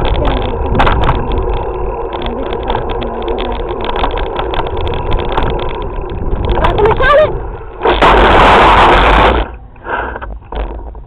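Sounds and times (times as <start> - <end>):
bicycle rolling over concrete: 0.0 - 11.0.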